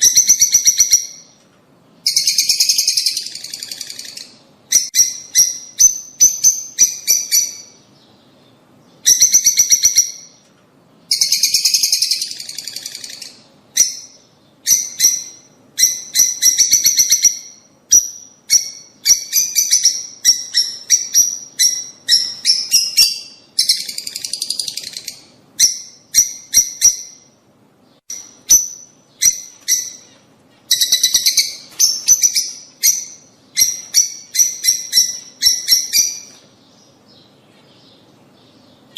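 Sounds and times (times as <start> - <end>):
lovebirds chirping: 0.0 - 38.9
buzzy bird chatter: 2.1 - 8.0, 11.1 - 27.2, 28.1 - 38.9.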